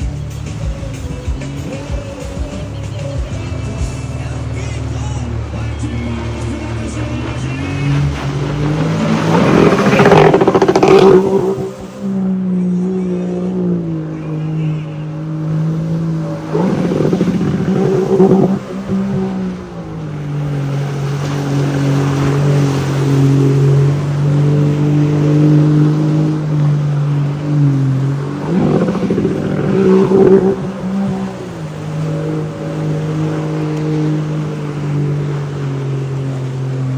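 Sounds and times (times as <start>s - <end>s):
jet ski engine running: 0.0s - 36.9s
rushes of noise: 0.0s - 36.9s.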